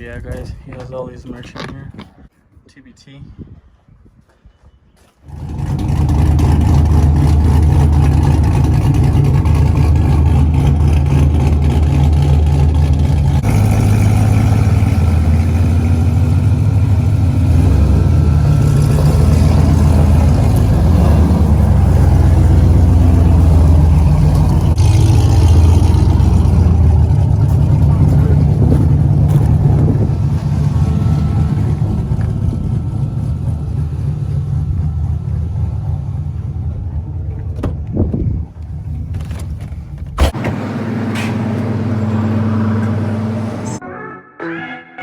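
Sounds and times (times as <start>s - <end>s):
vehicle engine running: 5.3s - 43.8s.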